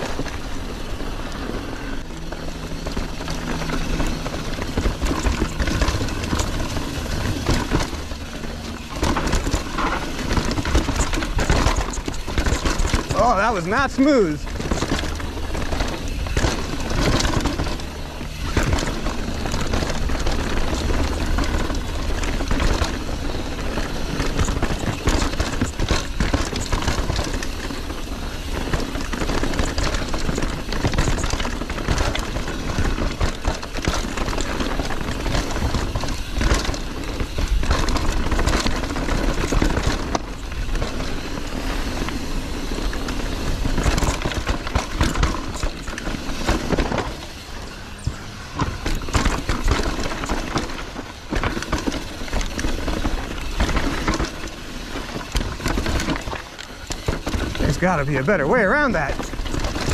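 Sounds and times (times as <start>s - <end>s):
bike knocking and rattling: 0.0s - 59.9s
bike tyres on dirt and rocks: 0.0s - 59.9s.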